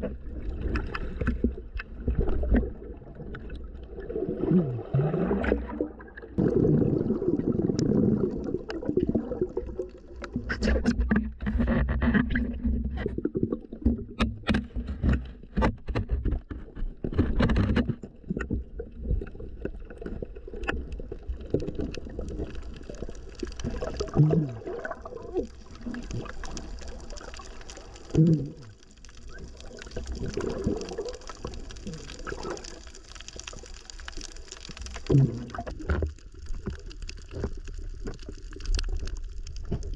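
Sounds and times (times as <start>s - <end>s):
underwater gurgling water: 0.0s - 39.9s.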